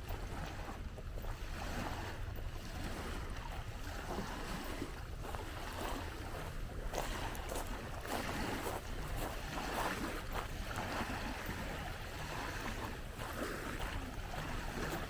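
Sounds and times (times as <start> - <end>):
small waves washing: 0.0 - 15.0
wind rumbling on microphone: 0.0 - 15.0.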